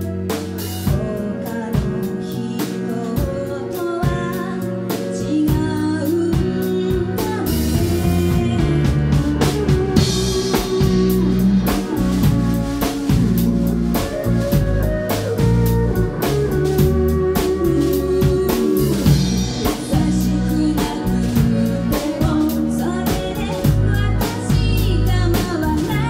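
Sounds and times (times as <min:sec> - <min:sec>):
drum kit steady beat: 0:00.0 - 0:26.0
electric bass: 0:00.0 - 0:26.0
electric guitar: 0:00.0 - 0:26.0.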